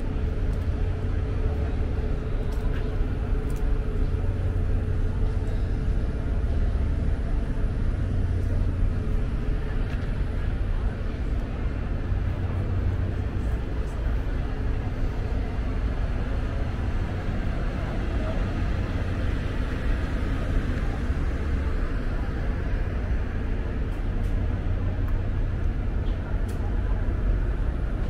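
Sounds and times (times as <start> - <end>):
faint background voices: 0.0 - 28.0
train platform rumble: 0.0 - 28.0.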